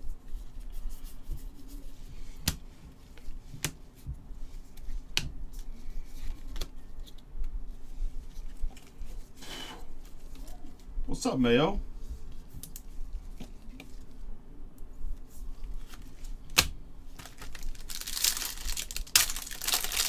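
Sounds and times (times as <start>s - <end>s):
faint steady hum: 0.0s - 20.0s
light rustling of card packs: 0.2s - 14.3s, 15.1s - 20.0s.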